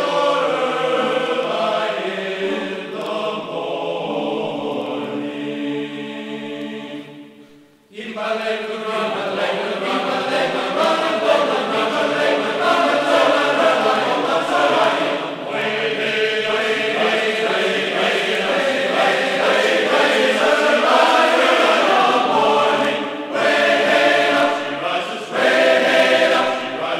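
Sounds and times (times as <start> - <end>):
choral chant: 0.0 - 26.9.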